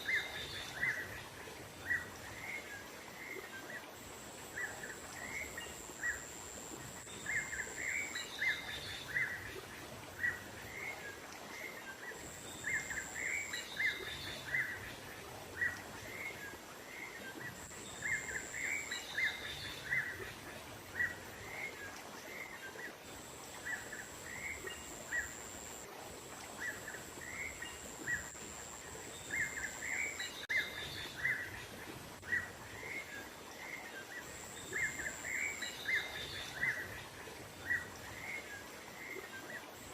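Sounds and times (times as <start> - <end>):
thin high steady tone: 0.0 - 33.4.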